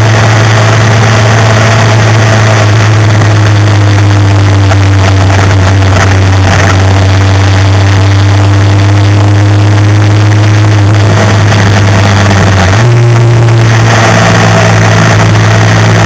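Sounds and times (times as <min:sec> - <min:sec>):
motorcycle engine running: 0:00.0 - 0:16.0
wind rush: 0:00.0 - 0:16.0.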